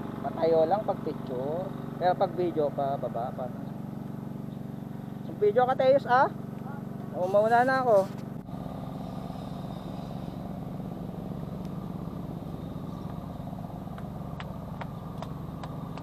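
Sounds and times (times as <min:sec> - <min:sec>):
small motorcycle engine running: 0:00.0 - 0:16.0.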